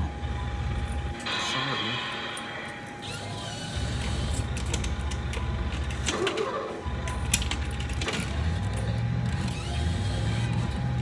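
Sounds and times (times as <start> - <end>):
arcade background noise: 0.0 - 11.0
crane motor humming: 0.0 - 11.0.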